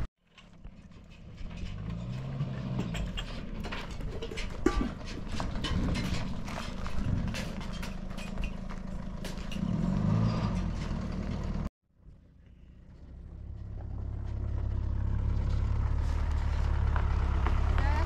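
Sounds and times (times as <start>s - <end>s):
pickup truck engine running: 0.0s - 18.0s
tyres crunching on gravel: 0.2s - 11.7s, 13.0s - 18.0s.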